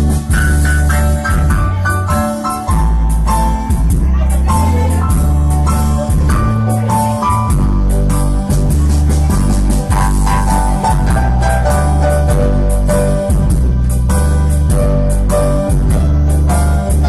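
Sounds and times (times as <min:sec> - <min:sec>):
electronic keyboard music: 0:00.0 - 0:17.0.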